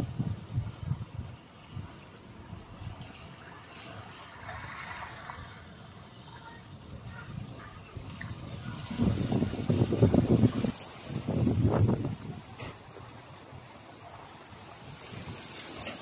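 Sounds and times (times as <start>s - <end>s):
sea water sloshing and lapping: 0.0s - 16.0s
wind buffeting microphone: 0.0s - 16.0s.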